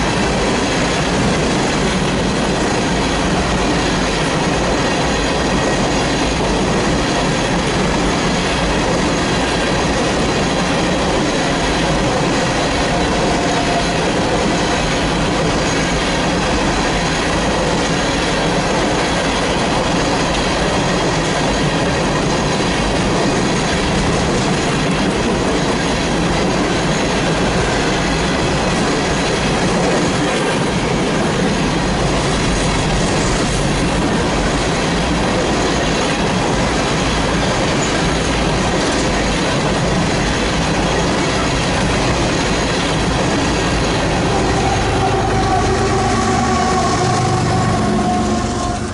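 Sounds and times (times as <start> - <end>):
steel wheels on rails: 0.0 - 48.9
train cars rolling past: 0.0 - 48.9.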